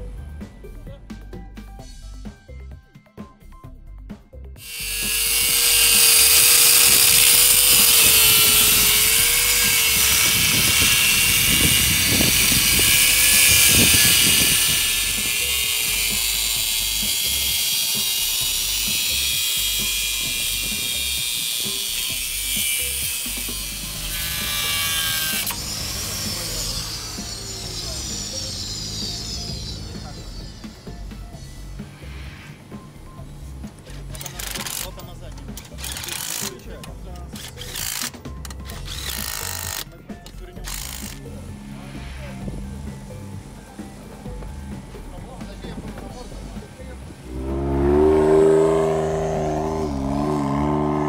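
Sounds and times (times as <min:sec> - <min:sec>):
angle grinder cutting metal: 0:04.6 - 0:32.6, 0:33.8 - 0:51.0.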